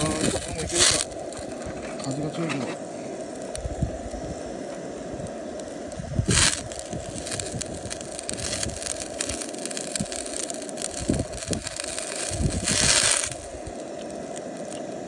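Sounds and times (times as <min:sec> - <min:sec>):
gas burner flame rushing: 0:00.0 - 0:15.0
meat sizzling on a grill: 0:00.0 - 0:15.0
wind noise: 0:00.0 - 0:15.0.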